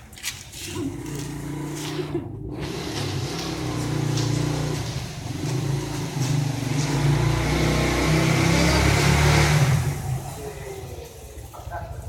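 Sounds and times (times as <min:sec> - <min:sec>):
vehicle engine revving: 0:00.6 - 0:10.9.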